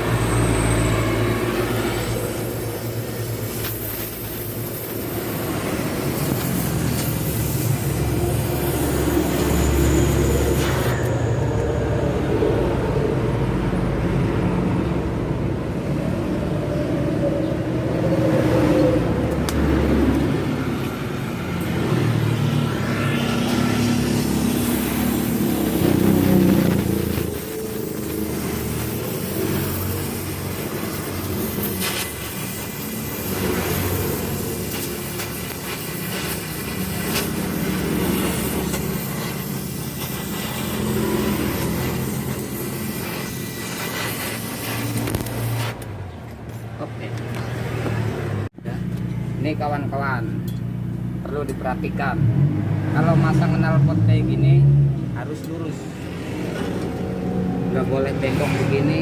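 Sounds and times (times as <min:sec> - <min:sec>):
truck engine through loud exhaust: 0:00.0 - 0:59.0.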